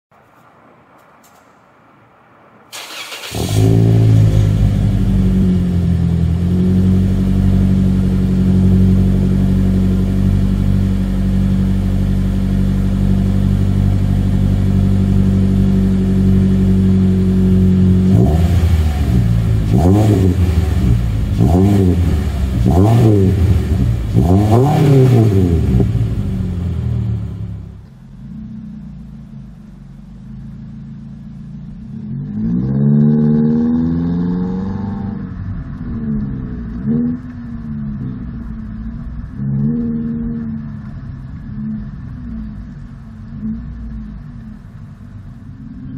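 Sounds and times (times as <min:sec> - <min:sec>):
car engine idling and revving: 0:02.7 - 0:45.9.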